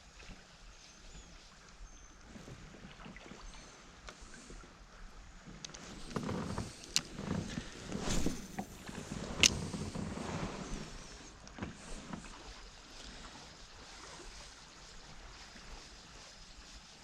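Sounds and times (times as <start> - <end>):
paddle splashing water: 0.0 - 17.0
wind: 0.0 - 17.0.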